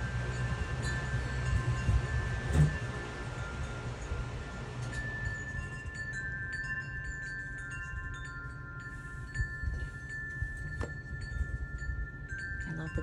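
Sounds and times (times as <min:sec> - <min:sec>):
wind chimes ringing: 0:00.0 - 0:13.0.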